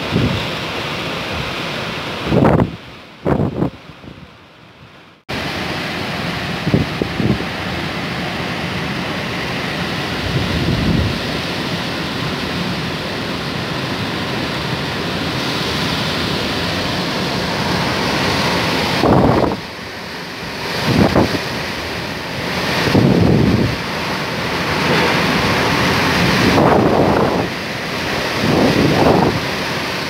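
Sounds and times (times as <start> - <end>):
wind gusts buffeting microphone: 0.0 - 0.6, 2.2 - 4.3, 6.3 - 12.5, 13.7 - 30.0
strong wind through trees: 0.0 - 30.0.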